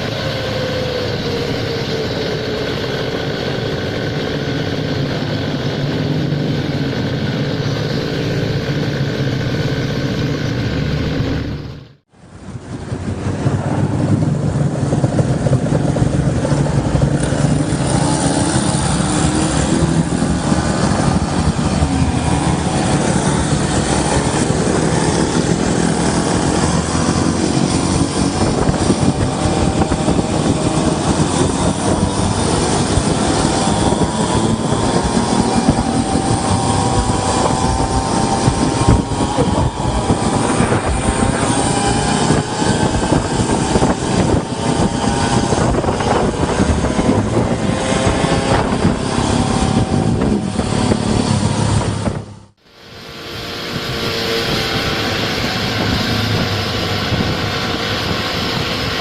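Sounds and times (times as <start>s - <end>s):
scooter engine running: 0.0s - 59.0s
wind and road noise rumble: 0.0s - 59.0s.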